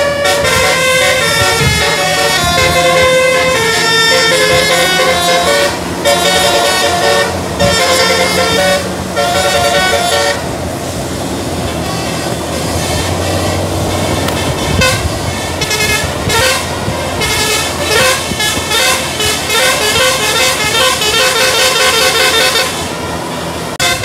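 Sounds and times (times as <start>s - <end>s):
musical bus air horn: 0.0s - 11.0s, 11.7s - 24.0s
bus engine running: 0.0s - 24.0s.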